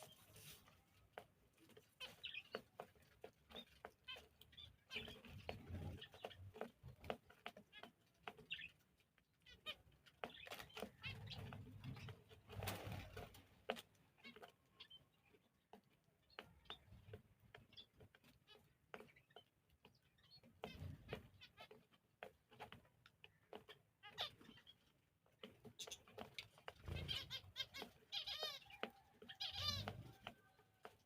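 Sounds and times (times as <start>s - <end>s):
small cage birds chirping: 0.0s - 31.0s.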